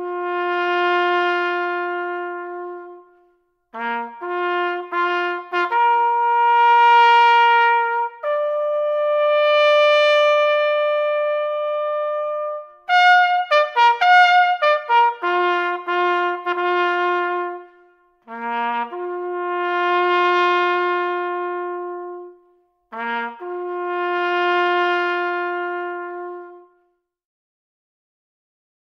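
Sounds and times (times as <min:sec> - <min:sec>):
solo trumpet bugle call: 0:00.0 - 0:27.0.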